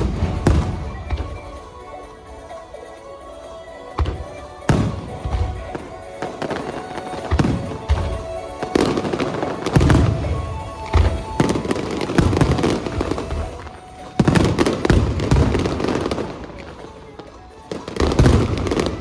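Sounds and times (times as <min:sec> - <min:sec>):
fireworks booming: 0:00.0 - 0:01.7, 0:04.0 - 0:16.9, 0:17.7 - 0:19.0
fireworks crackle: 0:00.0 - 0:02.5, 0:04.0 - 0:19.0
music: 0:00.0 - 0:19.0.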